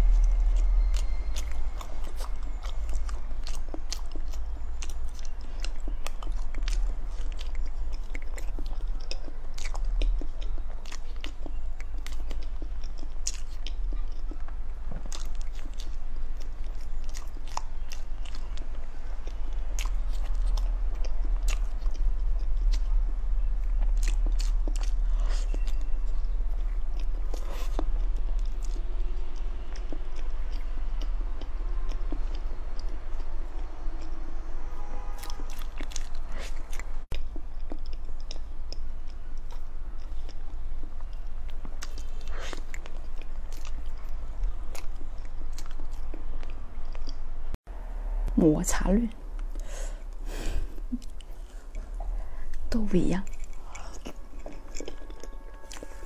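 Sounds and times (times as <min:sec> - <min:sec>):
chewing cake: 0:00.0 - 0:47.4, 0:49.4 - 0:56.0
steady low hum: 0:00.0 - 0:56.0.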